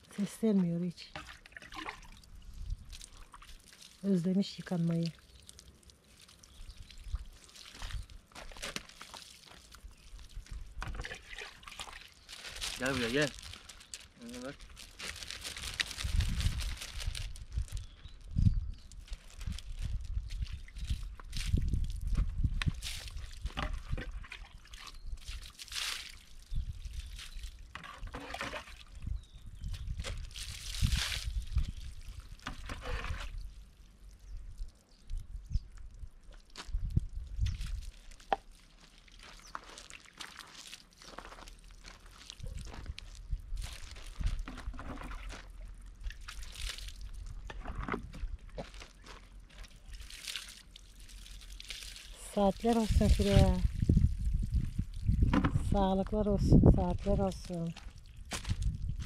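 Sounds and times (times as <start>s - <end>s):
water splashing and pouring: 1.0s - 17.8s, 18.9s - 55.8s.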